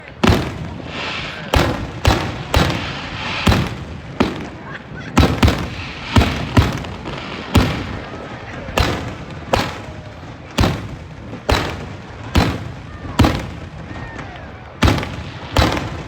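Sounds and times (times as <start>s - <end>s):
fireworks hissing crackle: 0.0s - 14.0s, 14.6s - 16.0s
fireworks bangs: 0.0s - 16.0s.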